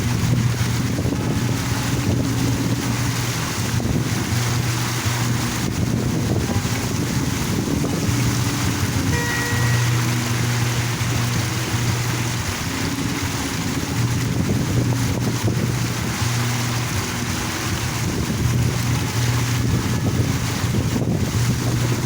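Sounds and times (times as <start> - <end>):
water fountain splashing: 0.0 - 22.0
wind buffeting microphone: 0.0 - 22.0.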